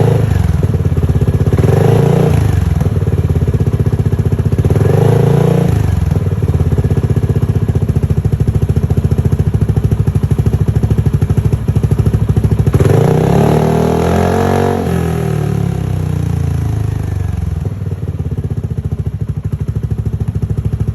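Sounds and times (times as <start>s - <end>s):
scooter engine idling: 0.0s - 20.9s.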